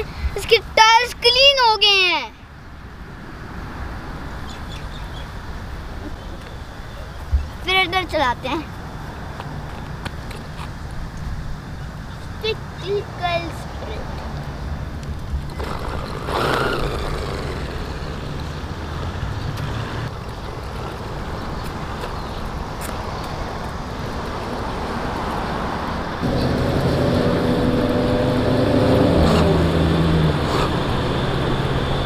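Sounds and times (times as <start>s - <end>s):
road traffic hum: 0.0s - 32.0s.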